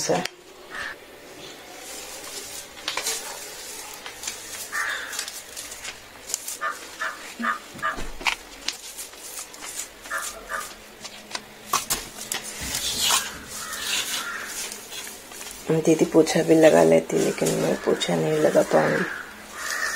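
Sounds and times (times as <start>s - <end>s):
broom sweeping a tiled floor: 0.0s - 19.9s.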